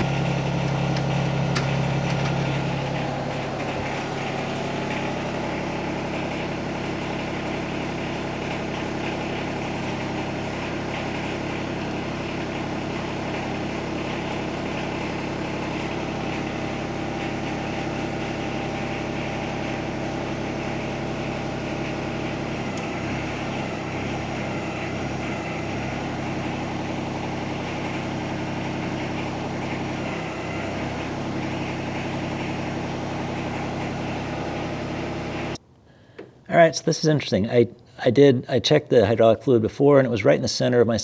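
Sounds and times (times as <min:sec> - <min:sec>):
tractor diesel engine idling: 0:00.0 - 0:35.6.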